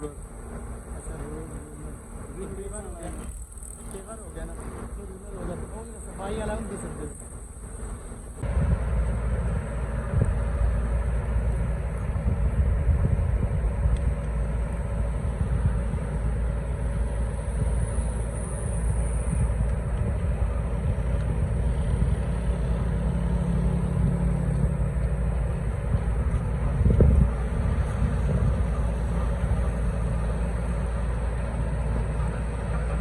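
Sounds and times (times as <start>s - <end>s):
heavy engine rumbling: 0.0s - 33.0s.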